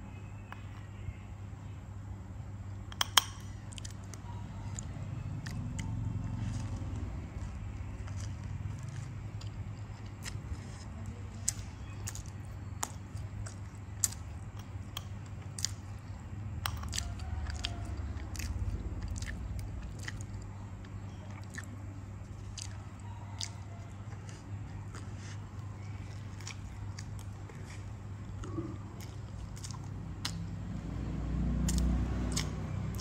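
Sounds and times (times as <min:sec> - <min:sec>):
low steady hum: 0:00.0 - 0:33.0
chewing crusty bread: 0:02.0 - 0:33.0.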